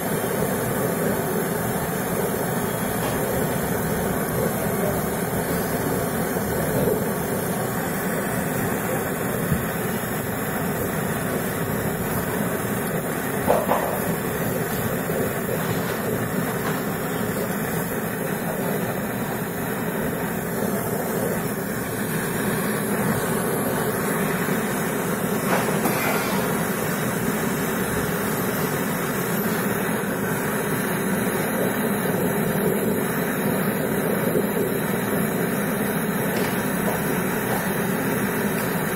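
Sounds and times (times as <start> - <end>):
torch flame hissing: 0.0 - 38.9.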